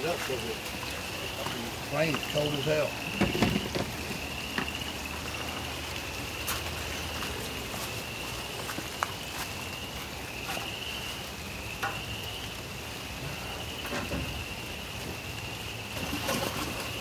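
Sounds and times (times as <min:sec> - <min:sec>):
close raindrops ticking: 0:00.0 - 0:16.0
frogs trilling: 0:00.0 - 0:17.0
light rain: 0:00.0 - 0:17.0.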